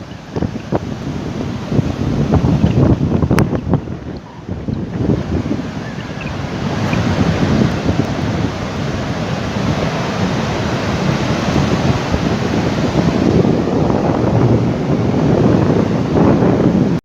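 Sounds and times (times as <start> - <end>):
storm wind across microphone: 0.0 - 17.0.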